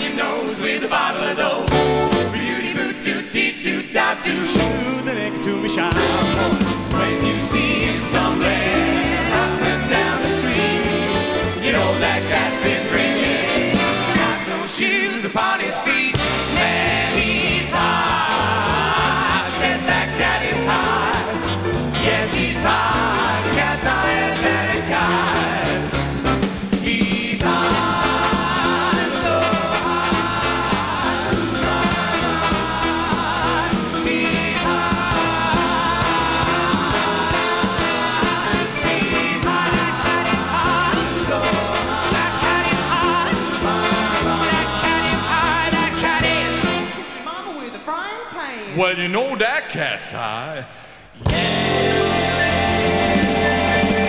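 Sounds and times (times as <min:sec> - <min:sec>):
men singing in close harmony: 0:00.0 - 0:26.0, 0:26.7 - 0:46.8, 0:51.8 - 0:54.0.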